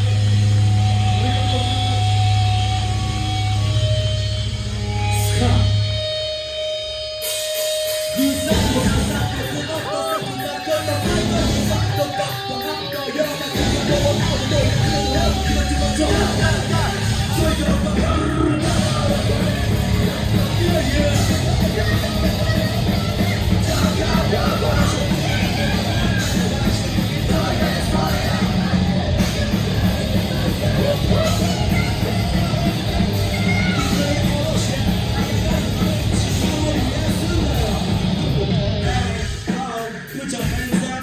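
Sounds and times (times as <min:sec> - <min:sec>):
distorted electric guitar: 0:00.0 - 0:41.0
drums: 0:00.0 - 0:41.0
person singing and shouting: 0:08.0 - 0:41.0.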